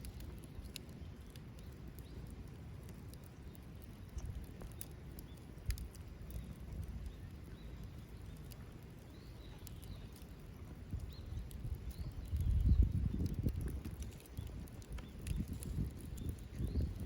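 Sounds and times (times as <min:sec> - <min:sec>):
small wood fire crackling: 0:00.0 - 0:17.0.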